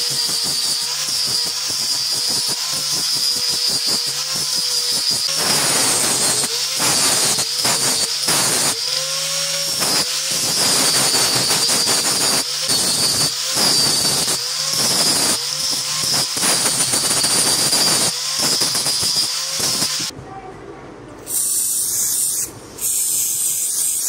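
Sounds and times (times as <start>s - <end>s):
angle grinder rasping on wood: 0.0s - 20.1s.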